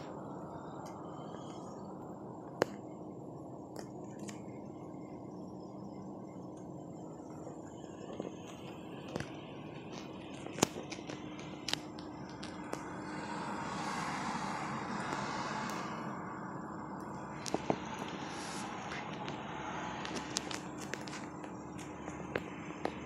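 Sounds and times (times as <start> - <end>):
low hum inside car: 0.0 - 23.0.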